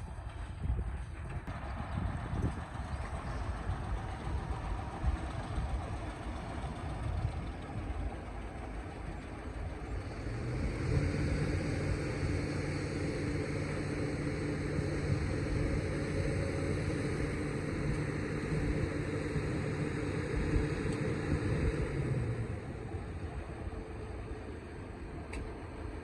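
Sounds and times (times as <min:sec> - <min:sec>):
excavator diesel engine rumbling: 0:00.0 - 0:26.0.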